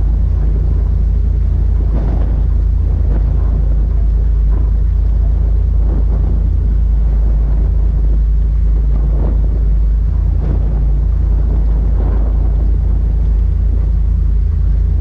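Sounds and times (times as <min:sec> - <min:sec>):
motorboat engine rumbling: 0:00.0 - 0:15.0
wind buffeting microphone: 0:00.0 - 0:15.0.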